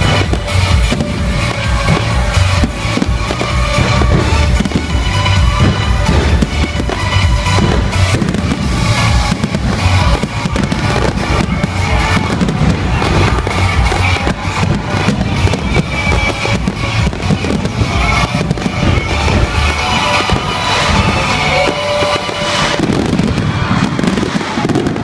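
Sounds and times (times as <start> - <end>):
music: 0.0 - 25.0.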